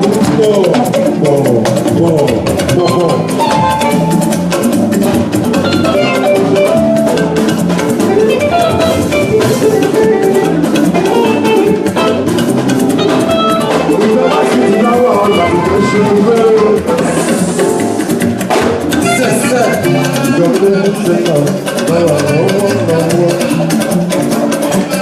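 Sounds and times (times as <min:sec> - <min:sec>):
drum kit and percussion beat: 0:00.0 - 0:25.0
instruments playing a melody: 0:00.0 - 0:25.0.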